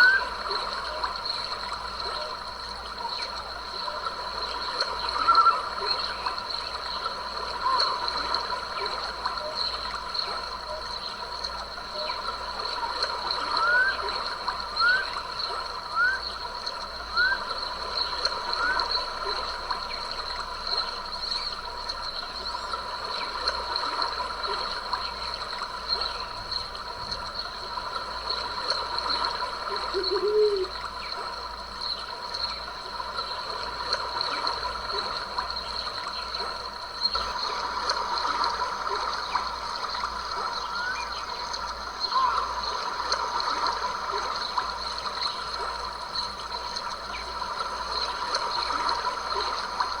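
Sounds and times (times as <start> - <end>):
stream trickling and gurgling: 0.0 - 50.0.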